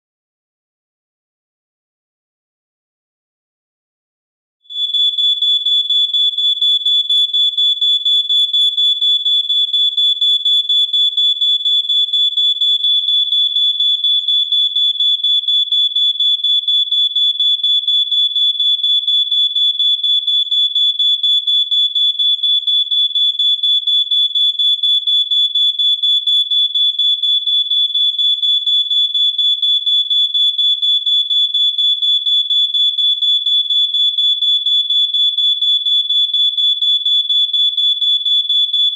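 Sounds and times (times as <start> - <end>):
smoke detector alarm beeping: 4.7 - 38.9.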